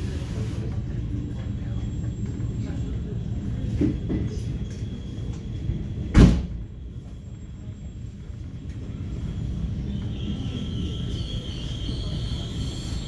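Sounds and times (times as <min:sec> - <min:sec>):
train high whine: 0:00.0 - 0:13.0
train low rumble: 0:00.0 - 0:13.0.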